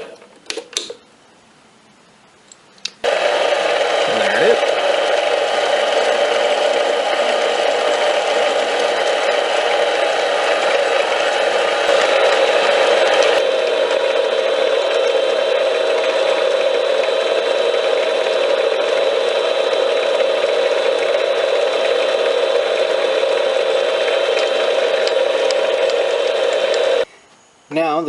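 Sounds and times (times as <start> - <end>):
metal lathe whining: 3.0 - 27.1.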